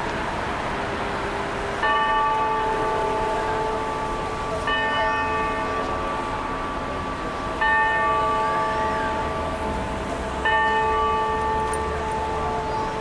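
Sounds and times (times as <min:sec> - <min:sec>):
hum of city traffic: 0:00.0 - 0:13.0
clock tower bell chime: 0:01.8 - 0:13.0.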